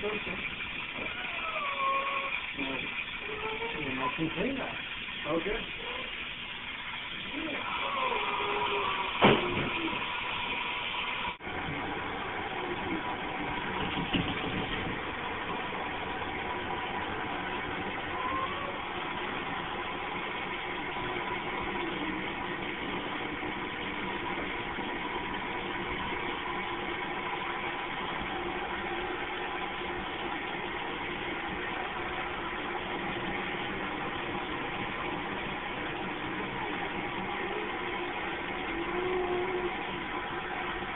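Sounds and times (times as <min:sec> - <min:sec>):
hose sprayer hissing: 0:00.0 - 0:40.9
machine hum: 0:00.0 - 0:40.9.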